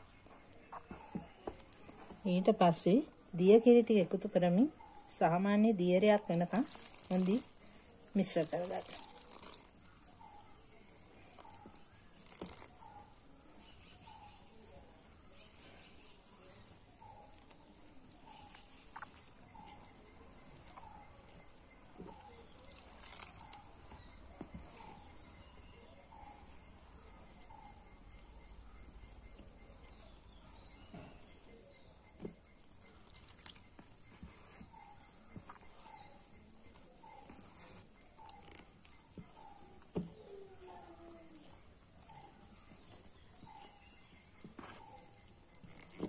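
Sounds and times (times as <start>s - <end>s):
spoon stirring batter: 5.0s - 46.0s.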